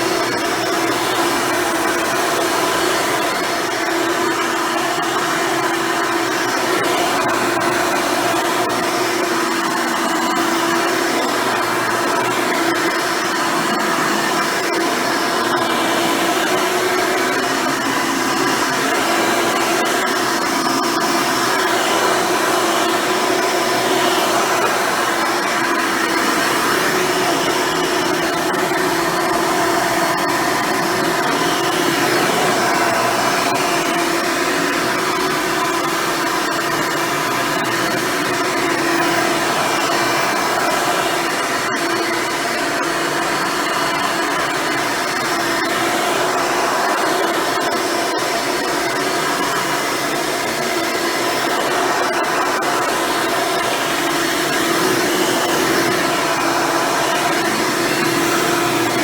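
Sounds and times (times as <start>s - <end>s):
upright vacuum cleaner running: 0.0s - 59.0s.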